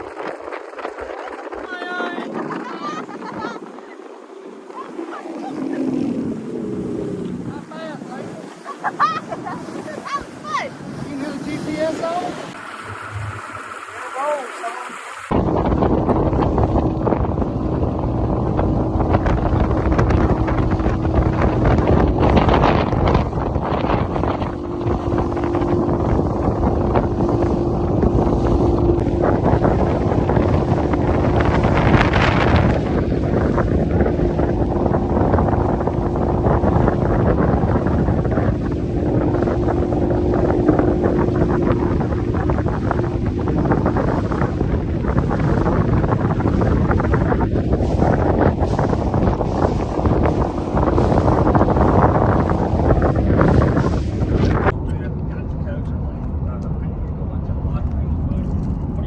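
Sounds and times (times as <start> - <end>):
motorboat engine hum: 0.0 - 59.0
wind buffeting microphone: 0.0 - 59.0.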